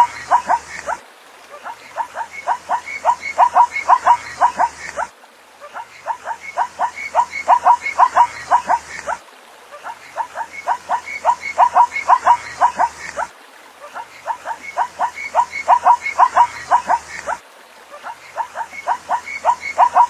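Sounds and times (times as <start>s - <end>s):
zebra barking yips: 0.0s - 1.0s, 1.6s - 9.2s, 9.8s - 17.4s, 18.0s - 20.0s.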